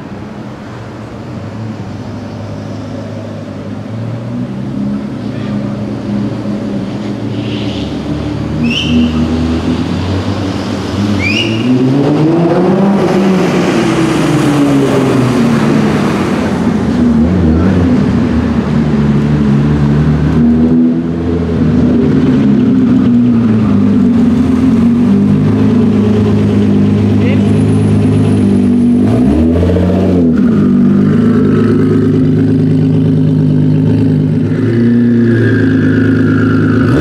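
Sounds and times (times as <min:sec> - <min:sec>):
car engine exhaust revving: 0:04.2 - 0:37.0.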